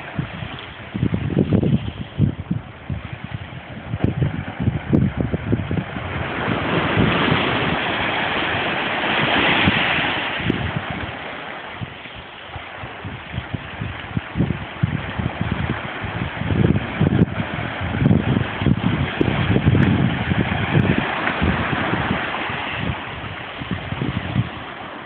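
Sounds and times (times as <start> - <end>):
waves washing onto shore: 0.0 - 25.0
wind buffeting microphone: 0.0 - 25.0.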